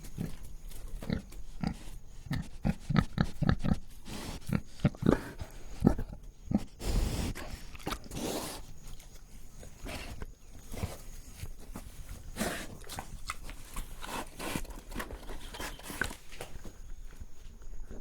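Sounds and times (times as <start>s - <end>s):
pig breathing and sniffing: 0.0s - 16.4s.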